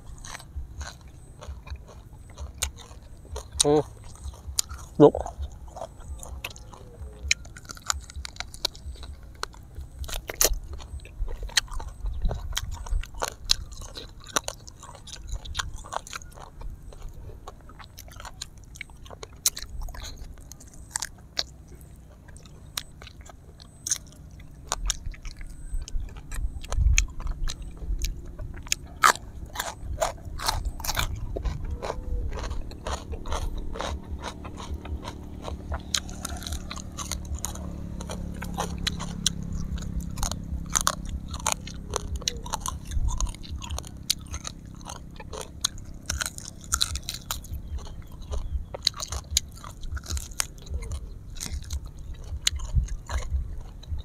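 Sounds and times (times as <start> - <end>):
crisp skin crunching: 0.0 - 54.0
person chewing and biting: 0.0 - 54.0.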